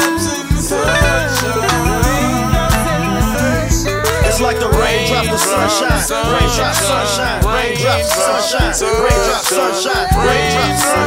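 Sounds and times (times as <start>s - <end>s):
song with bass and drum beat: 0.0s - 11.0s.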